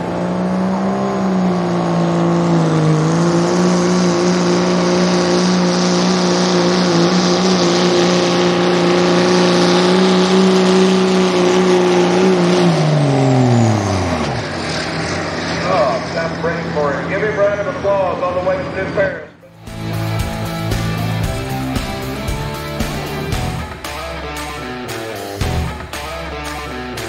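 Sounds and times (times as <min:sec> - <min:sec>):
pickup diesel engine revving: 0:00.0 - 0:27.0.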